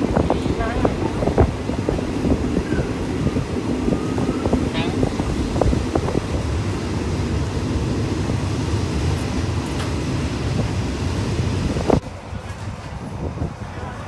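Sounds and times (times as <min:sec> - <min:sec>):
train rumbling: 0:00.0 - 0:14.0
wind buffeting microphone: 0:00.0 - 0:14.0.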